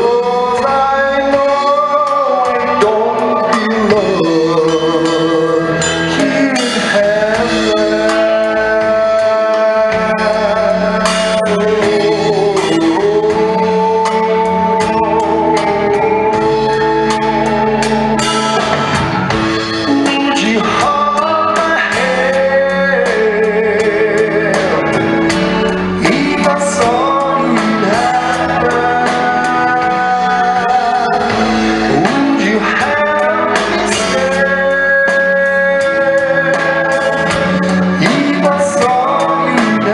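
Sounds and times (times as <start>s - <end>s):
instrumental backing with beat: 0.0s - 39.9s
person singing: 0.0s - 39.9s.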